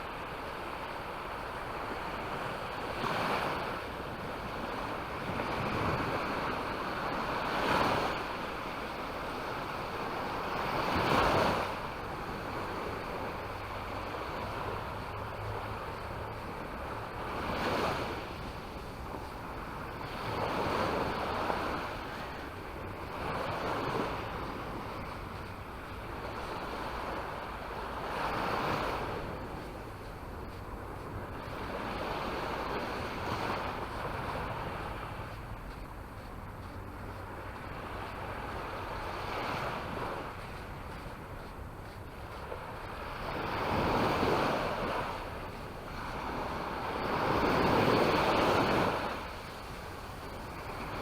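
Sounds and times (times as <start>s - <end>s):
sea waves breaking on beach: 0.0s - 51.0s.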